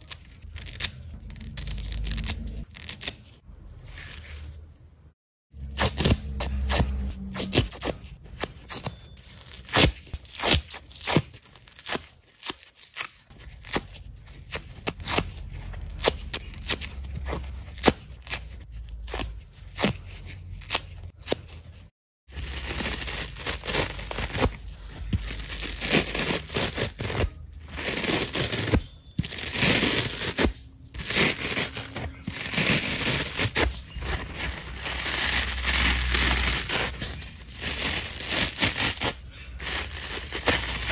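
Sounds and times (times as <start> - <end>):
foam sponges tearing: 0.0 - 4.6, 5.6 - 40.9.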